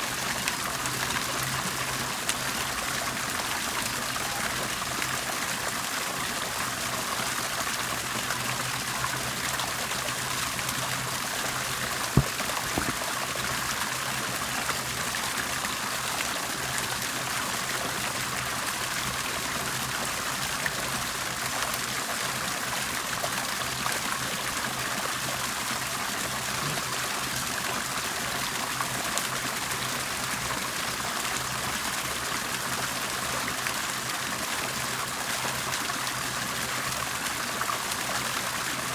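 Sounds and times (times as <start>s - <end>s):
water bubbling and trickling: 0.0s - 38.9s.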